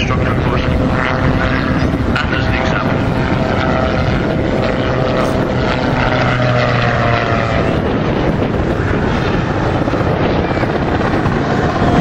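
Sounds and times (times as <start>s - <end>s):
gyroplane engine and propeller drone: 0.0s - 12.0s.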